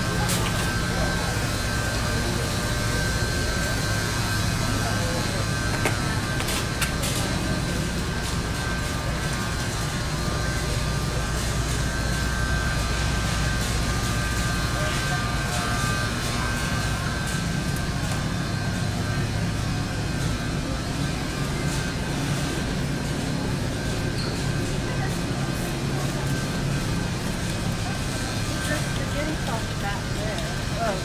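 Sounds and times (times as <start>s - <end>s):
hum of refrigerated display cases: 0.0s - 31.0s
shoppers' voices: 0.0s - 31.0s.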